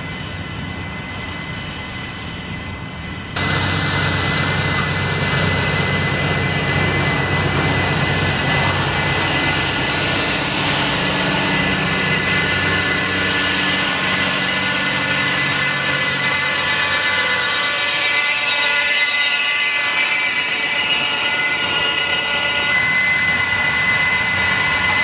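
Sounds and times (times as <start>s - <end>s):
constant high whine: 0.0s - 25.0s
tractor engine droning: 0.0s - 25.0s.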